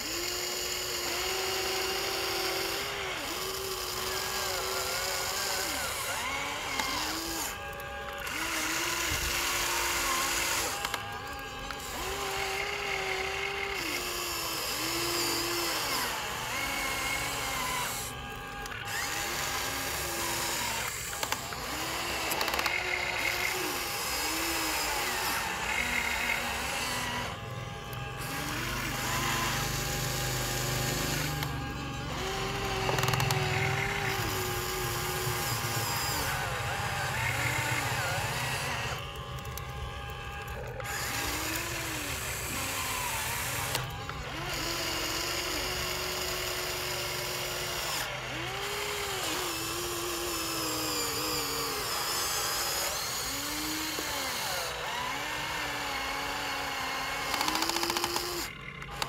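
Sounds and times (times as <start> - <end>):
toy vehicle electric motors whining: 0.0 - 59.0.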